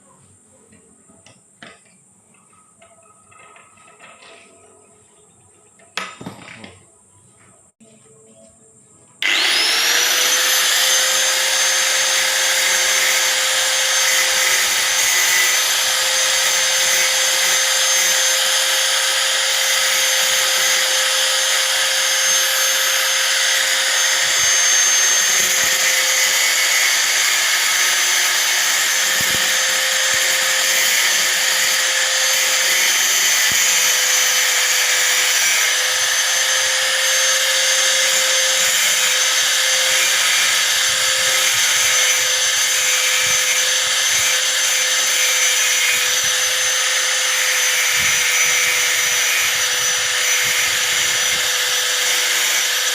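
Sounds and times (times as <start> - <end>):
angle grinder grinding metal: 9.2 - 52.9.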